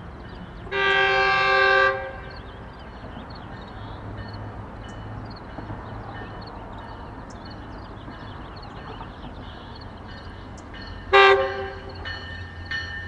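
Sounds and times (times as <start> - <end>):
small birds chirping: 0.0 - 0.8, 2.0 - 13.0.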